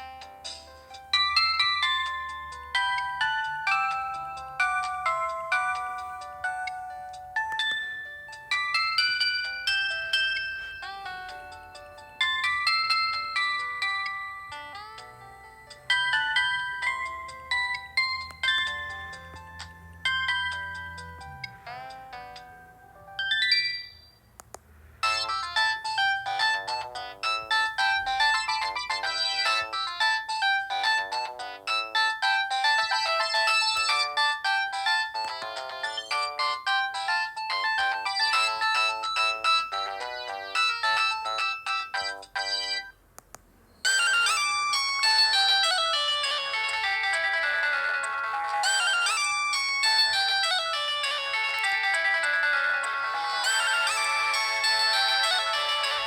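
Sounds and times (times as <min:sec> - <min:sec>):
electronic ringtone melodies: 0:00.0 - 0:24.2, 0:25.0 - 0:43.0, 0:43.8 - 0:56.0.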